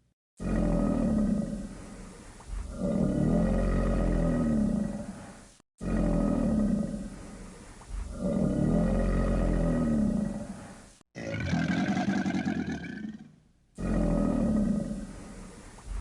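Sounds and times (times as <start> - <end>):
crocodile roars: 0.4 - 16.0.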